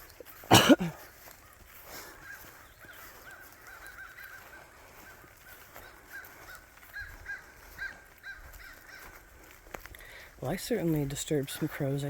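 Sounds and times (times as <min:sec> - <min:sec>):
crows cawing: 0:00.0 - 0:10.4.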